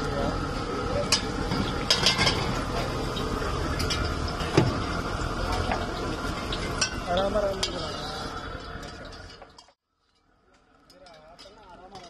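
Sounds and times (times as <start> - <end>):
gas burner rushing: 0.0 - 9.8
ladle stirring oil in wok: 0.3 - 12.0.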